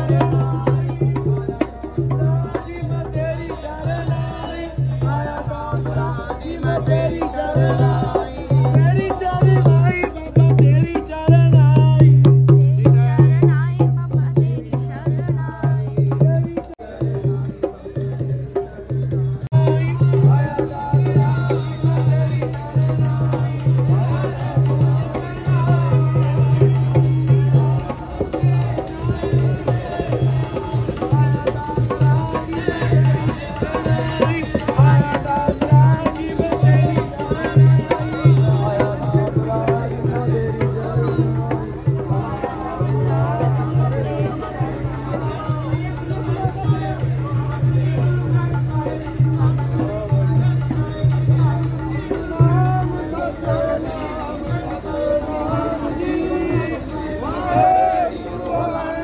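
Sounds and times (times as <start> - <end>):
drums and hand percussion: 0.0 - 59.0.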